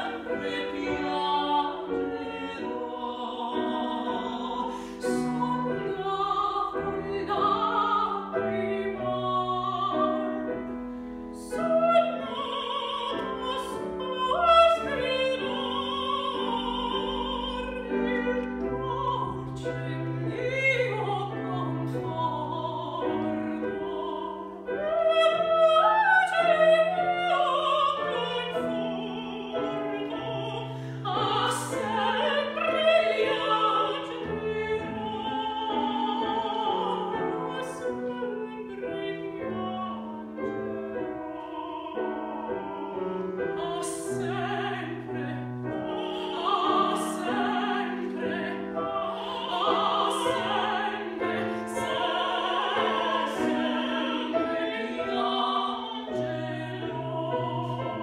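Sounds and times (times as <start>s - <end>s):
opera duet singing: 0.0s - 58.0s
piano accompaniment: 0.0s - 58.0s.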